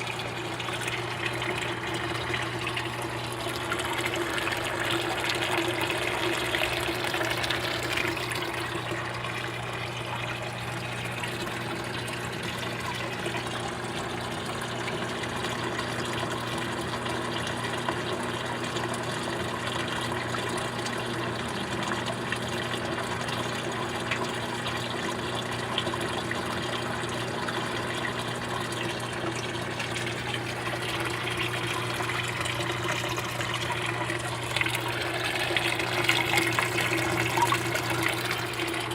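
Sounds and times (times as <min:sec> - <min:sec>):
water running and splashing: 0:00.0 - 0:18.0, 0:19.9 - 0:38.9.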